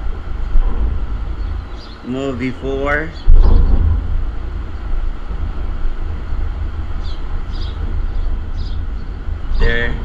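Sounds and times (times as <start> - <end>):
wind buffeting the microphone: 0.0 - 10.0.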